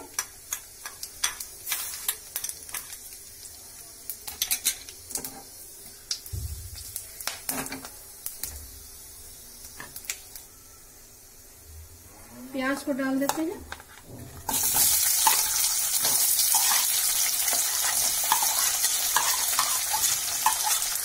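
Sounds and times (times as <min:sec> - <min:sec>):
spices sizzling in hot oil: 0:00.0 - 0:11.7, 0:12.5 - 0:21.0.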